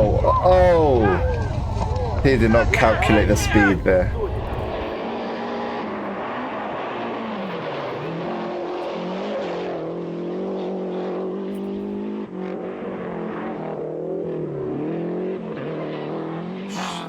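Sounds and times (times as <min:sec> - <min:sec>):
rally car engine racing: 0:00.0 - 0:17.0.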